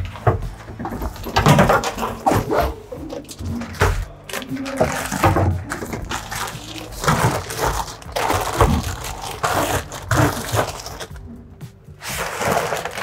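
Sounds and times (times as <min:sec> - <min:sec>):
plastic bags crinkling: 0:01.0 - 0:11.3, 0:12.0 - 0:13.0.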